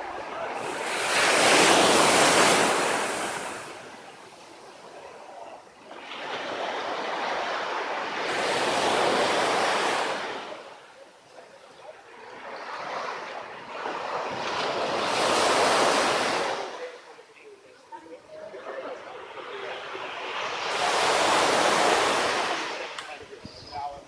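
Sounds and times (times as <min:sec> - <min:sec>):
waves washing on beach: 0:00.0 - 0:17.2, 0:18.4 - 0:23.4.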